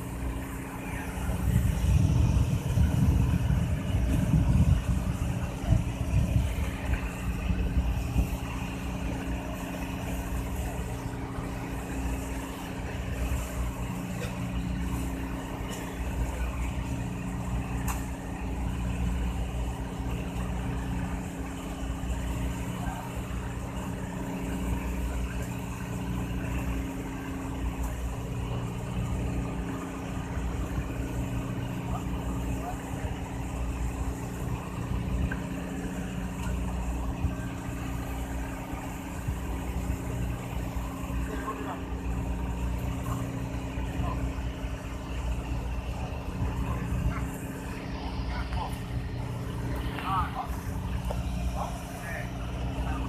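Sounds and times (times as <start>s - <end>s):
boat engine droning: 0.0s - 53.0s
water rushing along hull: 0.0s - 53.0s.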